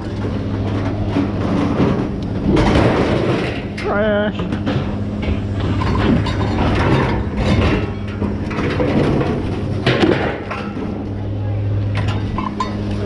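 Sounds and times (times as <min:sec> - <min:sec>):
scrap metal clanking and scraping: 0:00.0 - 0:11.2, 0:11.9 - 0:13.0
low engine-like hum: 0:00.0 - 0:13.0.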